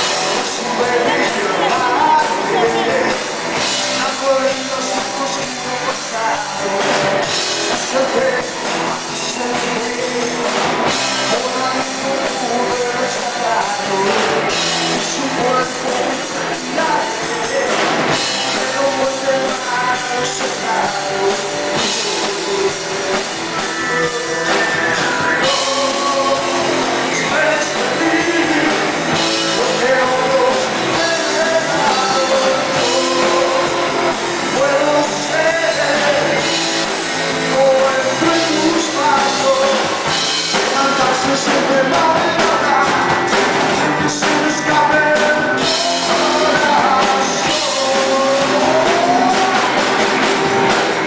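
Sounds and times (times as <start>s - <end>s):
live rock band playing: 0.0s - 51.0s
man singing: 0.0s - 51.0s.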